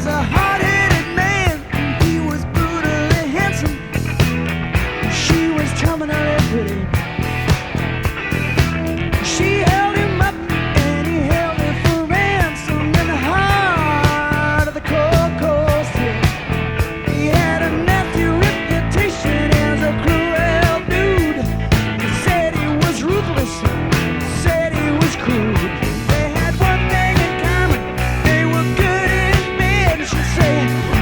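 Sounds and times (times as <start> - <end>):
rock music with singing: 0.0 - 31.0.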